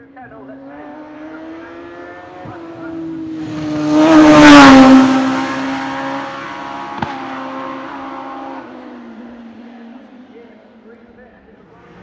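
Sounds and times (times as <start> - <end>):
racing car passing at full throttle: 0.0 - 12.0.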